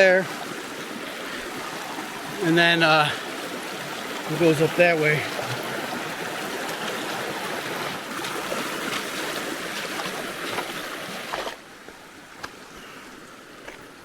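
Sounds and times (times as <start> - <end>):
river water rushing over rocks: 0.0 - 14.0.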